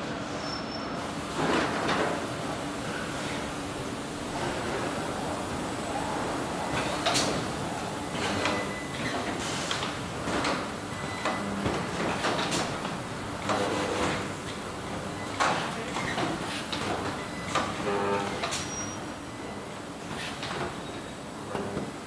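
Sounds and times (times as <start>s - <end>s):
steady machinery background: 1.0s - 22.0s.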